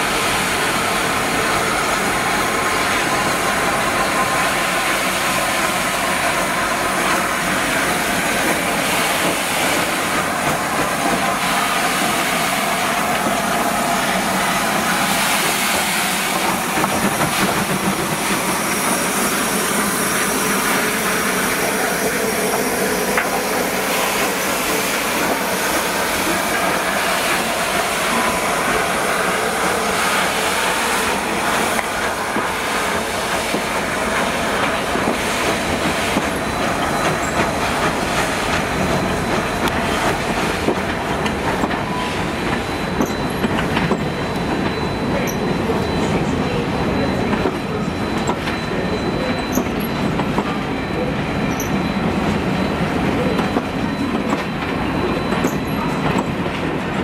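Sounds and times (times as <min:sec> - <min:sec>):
steam hissing: 0:00.0 - 0:48.1
train wheels clattering on rails: 0:01.3 - 0:57.0.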